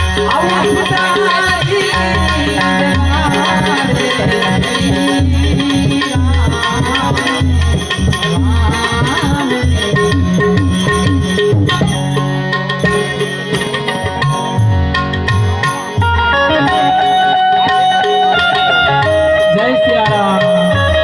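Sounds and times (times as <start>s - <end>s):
harmonium melody: 0.0s - 21.0s
tabla beat: 0.0s - 21.0s.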